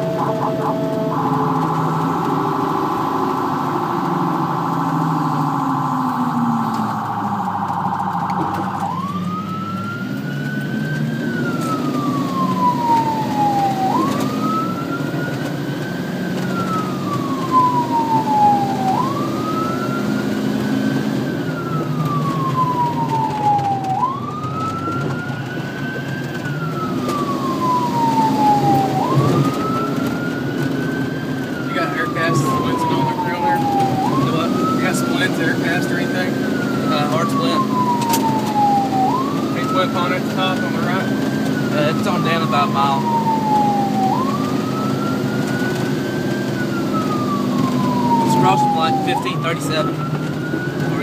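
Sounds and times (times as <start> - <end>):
emergency siren yelp and wail: 0.0 - 51.0
engine and road noise: 0.0 - 51.0.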